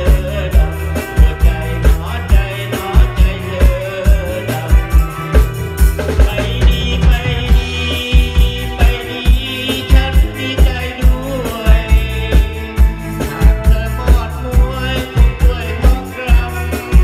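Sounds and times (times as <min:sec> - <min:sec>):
live band playing: 0:00.0 - 0:17.0
person singing into microphone: 0:00.0 - 0:17.0.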